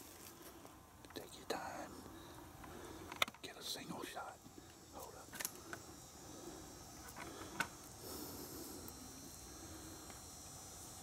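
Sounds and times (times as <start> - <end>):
high insect hum: 0.0 - 11.0.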